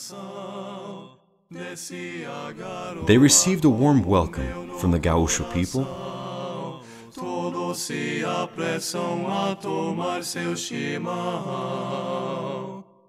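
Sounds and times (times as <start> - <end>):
people singing a song: 0.0 - 13.0.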